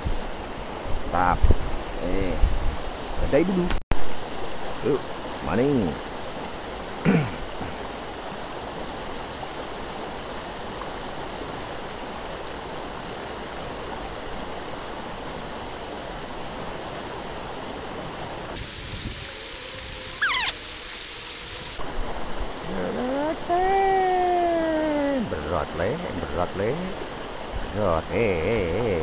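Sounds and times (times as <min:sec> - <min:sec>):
river water rushing: 0:04.0 - 0:29.0.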